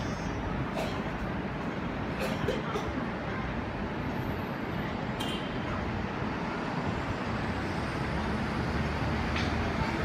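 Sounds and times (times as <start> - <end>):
outdoor rumble and hiss: 0.0 - 10.0.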